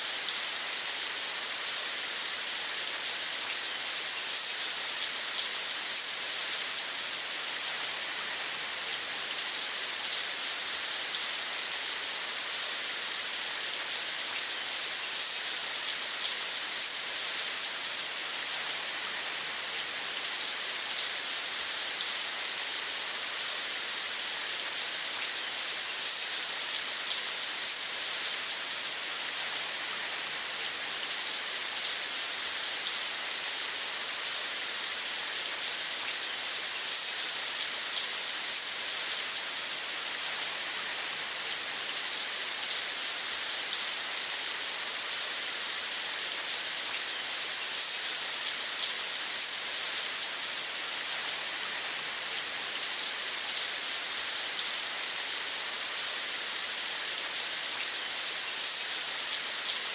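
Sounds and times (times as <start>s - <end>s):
steady rain pattering: 0.0s - 59.9s.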